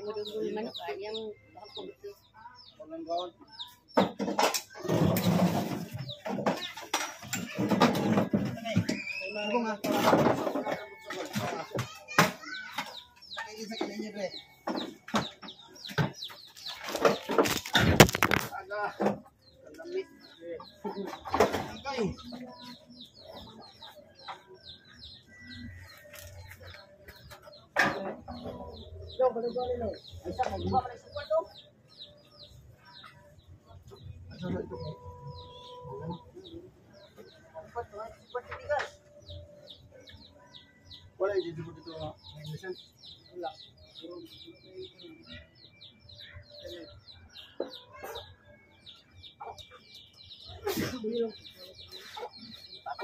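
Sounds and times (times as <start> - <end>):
chickens peeping and clucking: 0.0 - 53.0
small birds chirping rapidly: 0.0 - 53.0.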